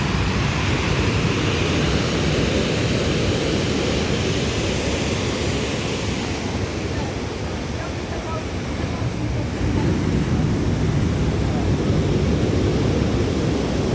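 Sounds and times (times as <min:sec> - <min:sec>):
sea surf washing in: 0:00.0 - 0:13.9
wind buffeting microphone: 0:00.0 - 0:13.9.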